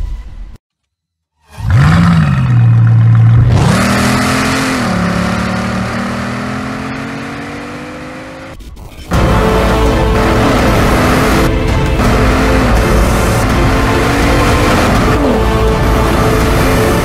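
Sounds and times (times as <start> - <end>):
car engine accelerating hard: 1.6 - 17.0.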